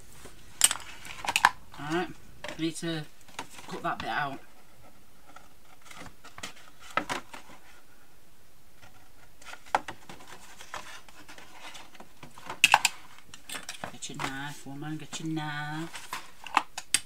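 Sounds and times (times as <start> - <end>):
cardstock rustling and scraping: 0.1 - 7.8, 8.8 - 16.8.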